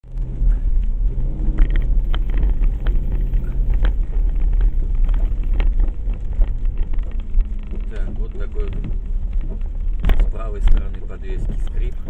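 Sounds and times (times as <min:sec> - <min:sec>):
car driving over bumps: 0:00.0 - 0:12.0
suspension squeaking: 0:00.2 - 0:12.0.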